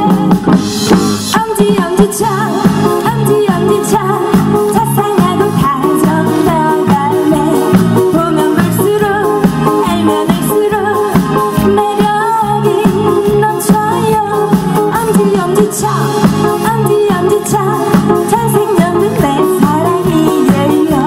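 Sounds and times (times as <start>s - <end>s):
drum kit steady beat: 0.0s - 21.0s
electric guitar: 0.0s - 21.0s
woman singing into microphone: 1.3s - 21.0s.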